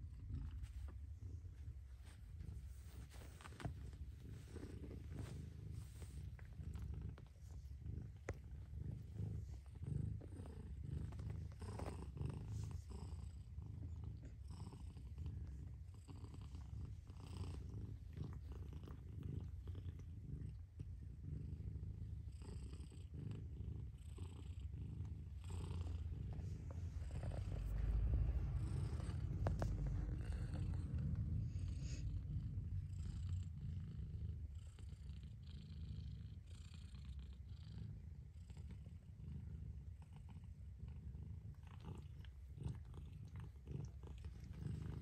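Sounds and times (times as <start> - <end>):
cat purring: 0.0 - 45.0.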